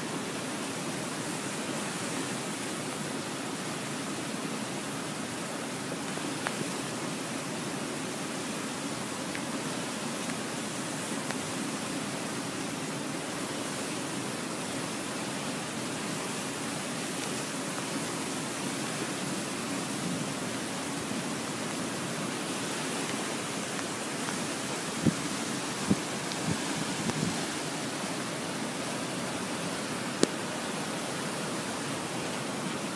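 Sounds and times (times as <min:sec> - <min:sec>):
flood water rushing: 0:00.0 - 0:32.9.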